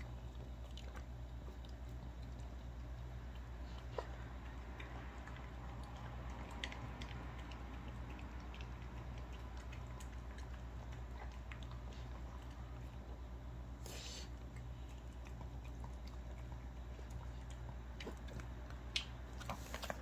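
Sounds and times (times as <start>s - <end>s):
dog chewing: 0.0s - 20.0s
steady low hum: 0.0s - 20.0s.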